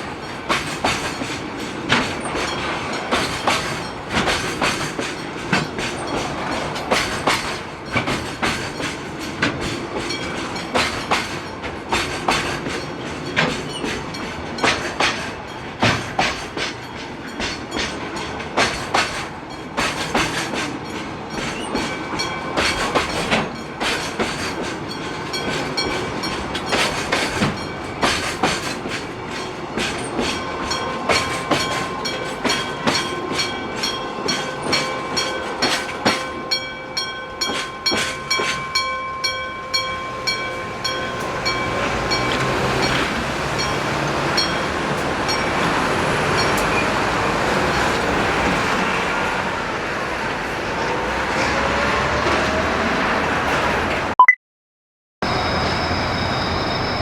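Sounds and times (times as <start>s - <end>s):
train wheels clacking over rail joints: 0.0s - 38.9s, 39.7s - 49.5s
level crossing warning bell: 2.2s - 18.6s, 19.4s - 48.7s.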